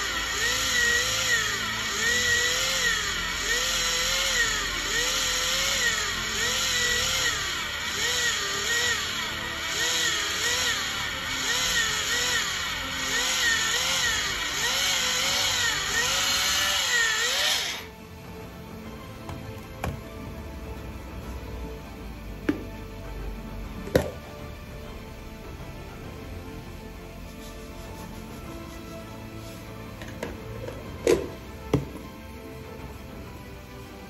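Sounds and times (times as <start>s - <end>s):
electric cheese grater motor whine: 0.0s - 23.1s, 23.7s - 34.0s.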